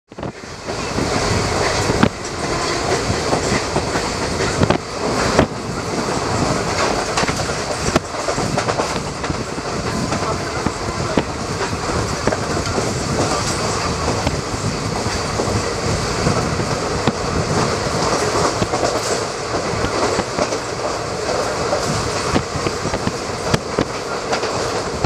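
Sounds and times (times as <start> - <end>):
train rumble and rush: 0.1 - 25.0.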